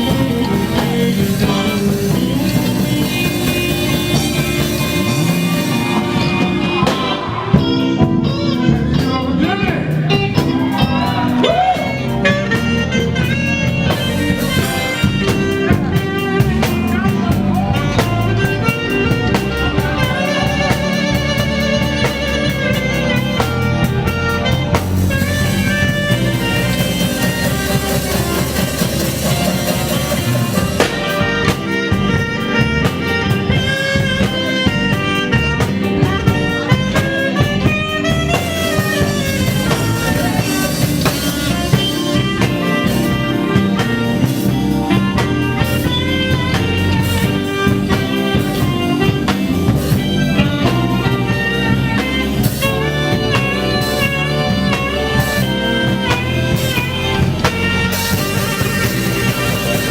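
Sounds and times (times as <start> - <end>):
lead line bending notes: 0.0 - 59.9
live band playing instrumental: 0.0 - 59.9.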